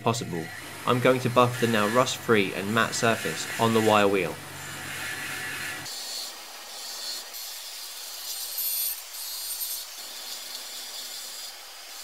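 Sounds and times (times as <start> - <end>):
wire wheel brushing metal: 0.4 - 12.0.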